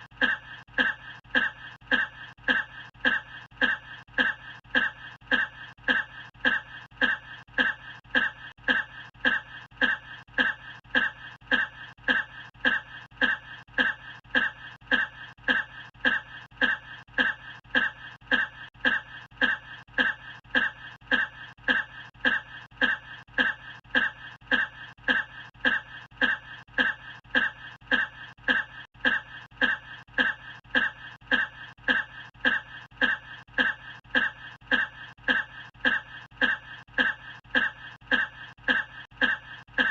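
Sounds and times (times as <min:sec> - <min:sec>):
person coughing: 0:00.0 - 0:39.9.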